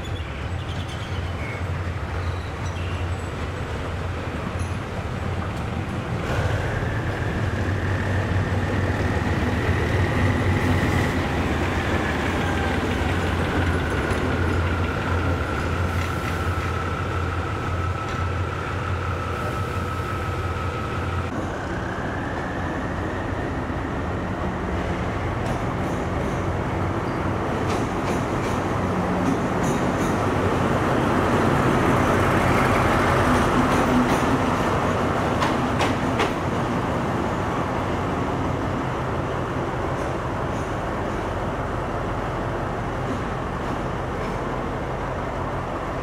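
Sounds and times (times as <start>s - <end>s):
diesel locomotive engine rumbling: 0.0s - 46.0s.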